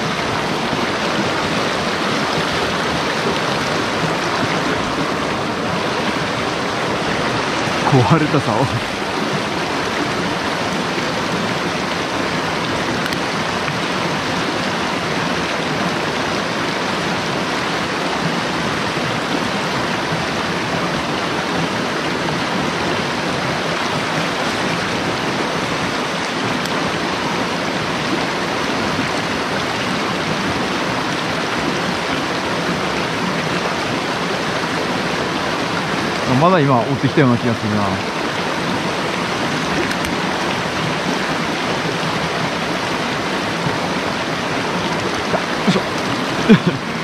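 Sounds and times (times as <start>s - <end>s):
mountain stream rushing: 0.0s - 47.0s.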